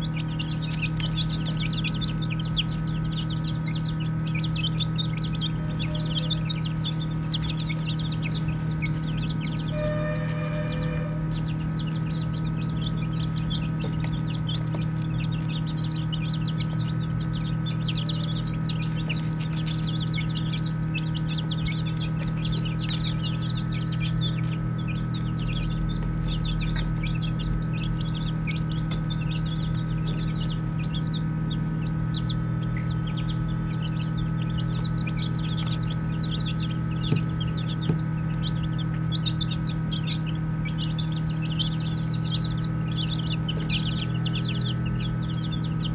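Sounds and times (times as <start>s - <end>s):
baby chicks peeping: 0.0s - 45.9s
steady low hum: 0.0s - 45.9s.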